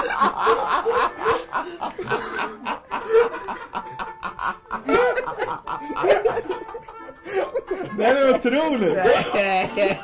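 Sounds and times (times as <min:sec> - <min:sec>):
men laughing: 0:00.0 - 0:10.0.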